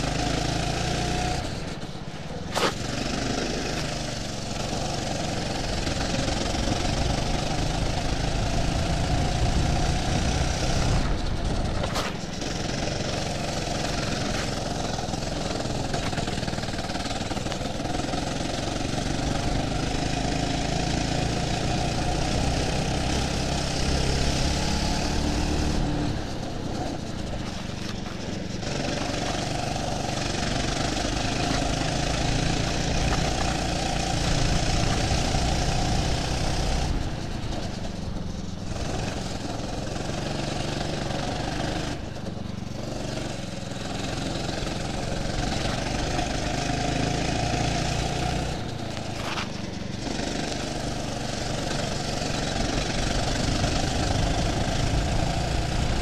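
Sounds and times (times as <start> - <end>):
go-kart engine at full throttle: 0.0 - 56.0.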